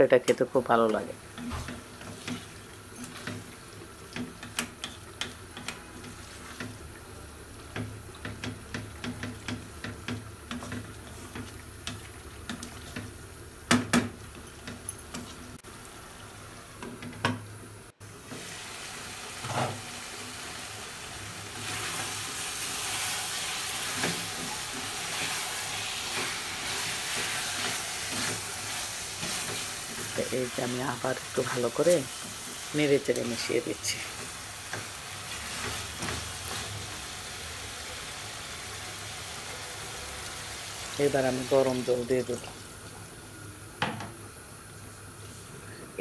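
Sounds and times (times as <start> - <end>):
frying sizzle: 0.0 - 46.0.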